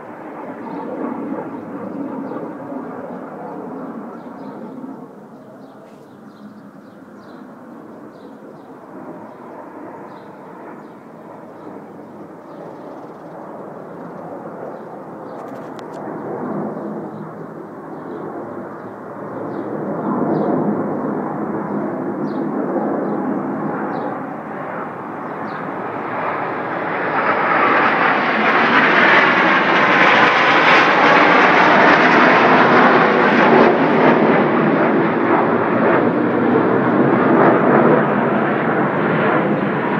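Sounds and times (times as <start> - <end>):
jet engines passing overhead: 0.0 - 39.9.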